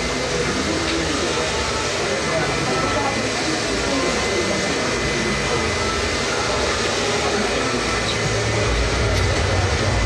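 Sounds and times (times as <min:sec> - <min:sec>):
rushing blown air: 0:00.0 - 0:10.0.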